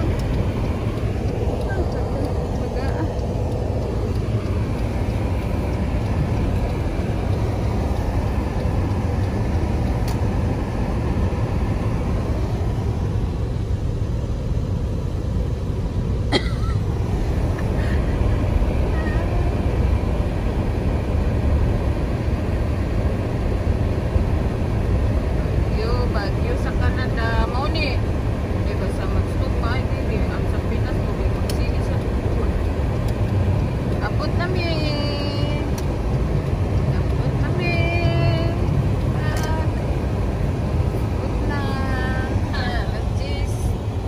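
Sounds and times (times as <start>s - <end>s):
vehicle rumble: 0.0s - 44.0s.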